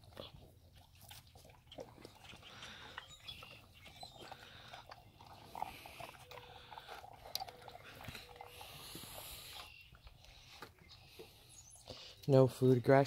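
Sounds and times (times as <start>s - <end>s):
dogs crunching dry kibble: 0.0s - 13.0s.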